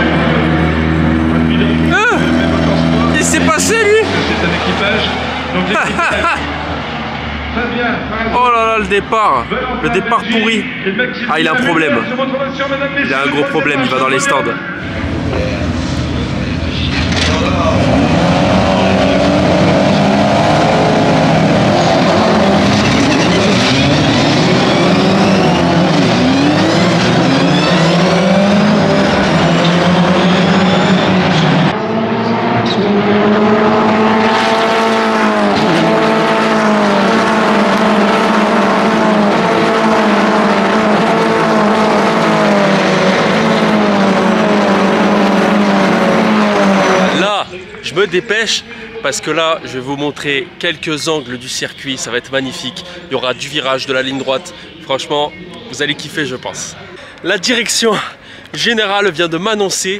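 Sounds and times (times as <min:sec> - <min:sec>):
race car engines revving: 0:00.0 - 0:59.9
race cars passing by: 0:00.0 - 0:59.9.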